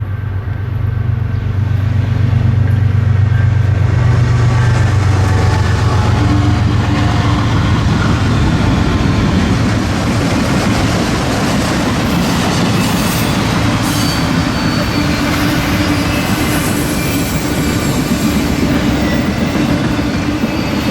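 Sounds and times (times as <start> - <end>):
diesel locomotive engine drone: 0.0 - 20.9
train wheels rolling on rails: 0.0 - 20.9.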